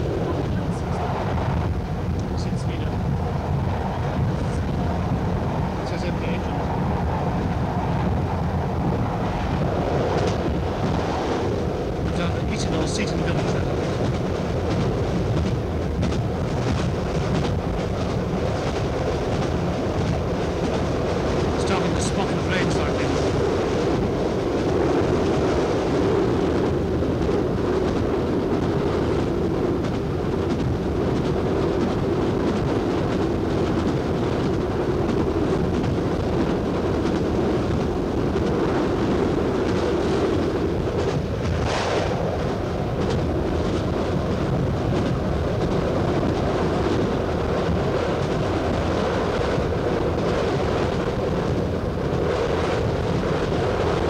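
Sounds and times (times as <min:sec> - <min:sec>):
diesel train rumbling: 0:00.0 - 0:54.0.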